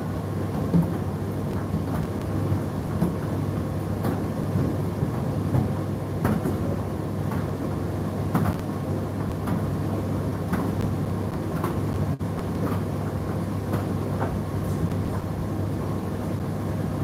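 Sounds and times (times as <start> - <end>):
tumble dryer humming: 0.0 - 17.0.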